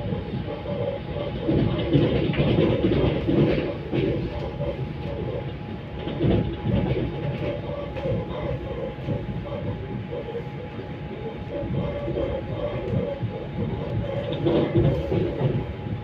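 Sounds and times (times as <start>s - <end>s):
faint steady whine: 0.0s - 16.0s
train wheels rumbling on rails: 0.0s - 16.0s.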